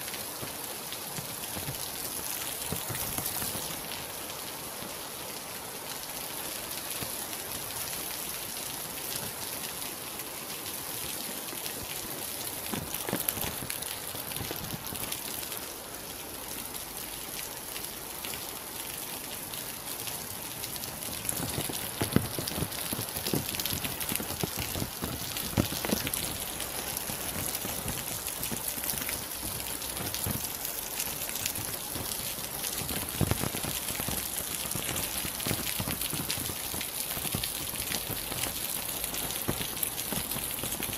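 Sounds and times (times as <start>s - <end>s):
rain drops pattering: 0.0s - 40.9s.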